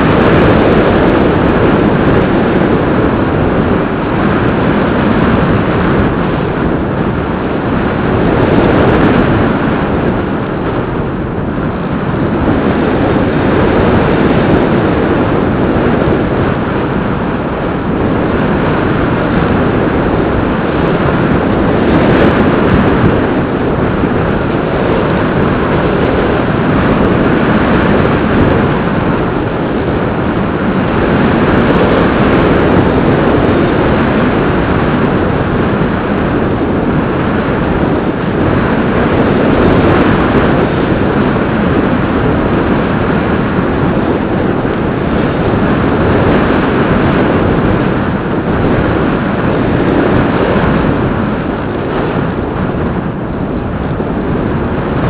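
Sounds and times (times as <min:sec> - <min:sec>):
airflow rushing over microphone: 0:00.0 - 0:55.0.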